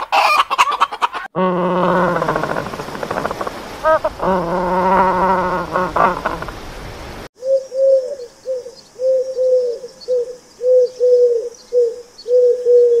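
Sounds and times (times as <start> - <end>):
dove cooing: 1.1 - 6.7, 7.4 - 13.0.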